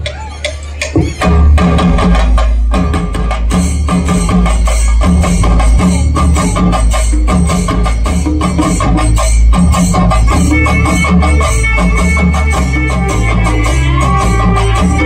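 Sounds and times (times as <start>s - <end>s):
amplified music with heavy bass: 0.0s - 15.0s
cymbals: 0.0s - 15.0s
drums beating fast rhythm: 0.0s - 15.0s.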